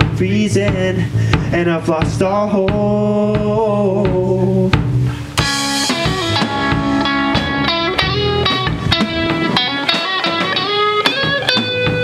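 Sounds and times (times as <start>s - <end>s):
band music: 0.0s - 12.0s.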